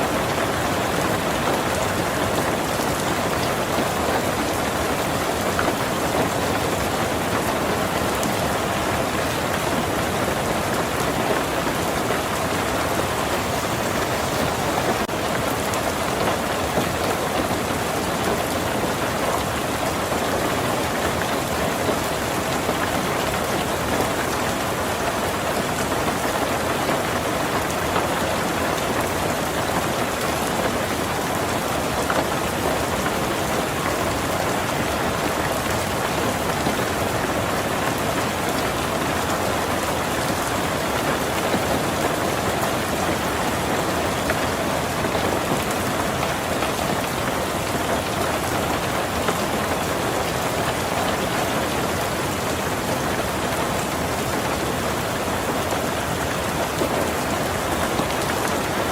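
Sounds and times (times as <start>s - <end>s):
heavy rain on a tin roof: 0.0s - 58.9s.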